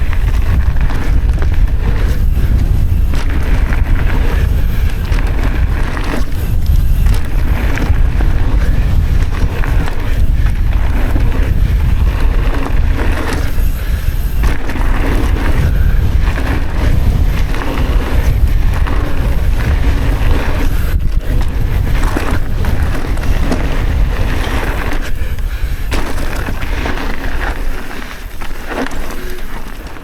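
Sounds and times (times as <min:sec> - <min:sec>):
bike tyres rolling on dirt trail: 0:00.0 - 0:30.0
wind buffeting microphone: 0:00.0 - 0:30.0.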